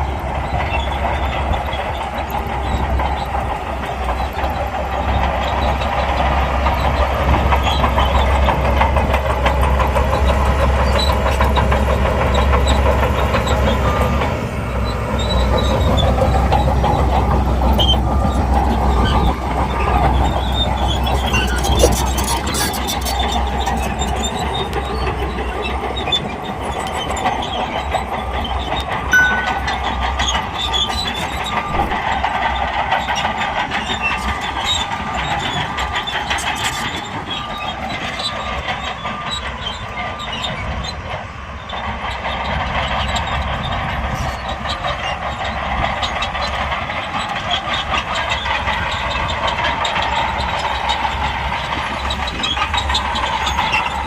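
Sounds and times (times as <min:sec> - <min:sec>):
bulldozer engine running: 0:00.0 - 0:54.0
steel tracks clanking: 0:00.0 - 0:54.0.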